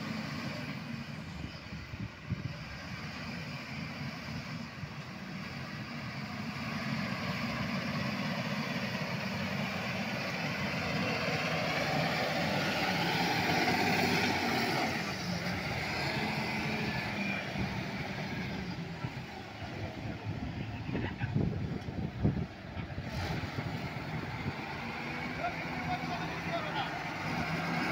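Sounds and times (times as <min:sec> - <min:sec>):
wheel loader diesel engine passing: 0:00.0 - 0:27.9.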